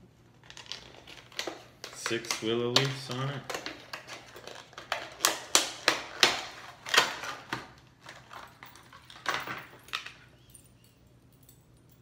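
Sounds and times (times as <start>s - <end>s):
plastic case clicking and clattering: 0.4s - 10.2s.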